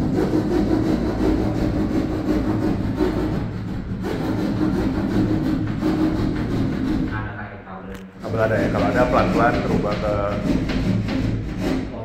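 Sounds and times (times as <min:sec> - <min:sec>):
sawing and scraping ceiling panel: 0:00.0 - 0:07.5, 0:08.1 - 0:12.0
steady low hum: 0:00.0 - 0:12.0.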